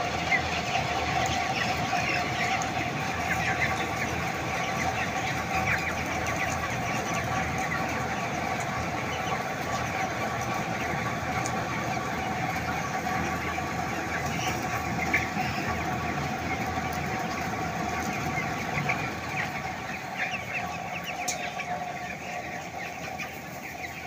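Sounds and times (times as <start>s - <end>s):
chicks peeping and cheeping: 0.0s - 24.0s.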